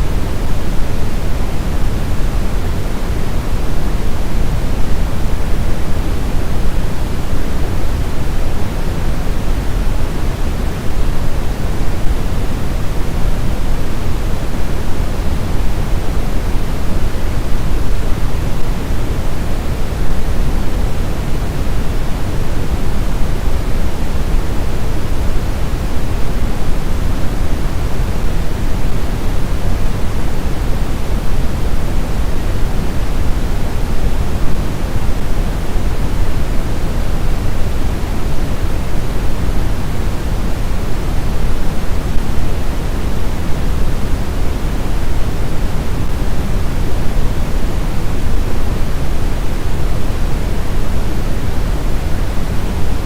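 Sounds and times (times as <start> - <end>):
steady white noise hiss: 0.0 - 53.0.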